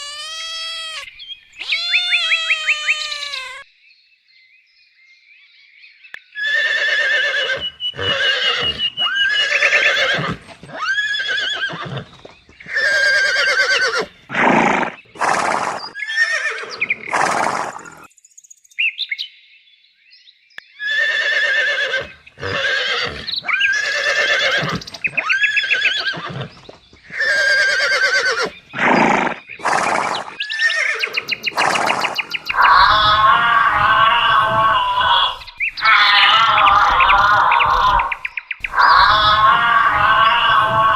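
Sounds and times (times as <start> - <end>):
horse whinnying: 0.0 - 3.7, 6.4 - 18.1, 20.8 - 40.9.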